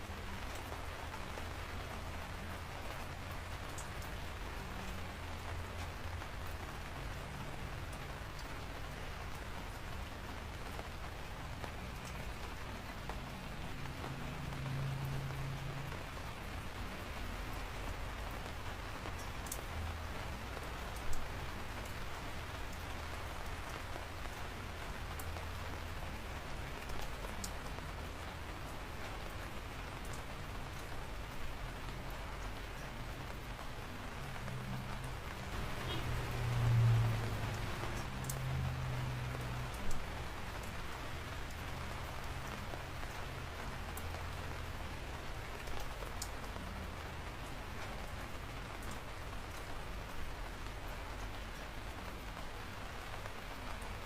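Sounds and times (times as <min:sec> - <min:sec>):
raindrops ticking: 0:00.0 - 0:54.0
steady rain falling: 0:00.0 - 0:54.0.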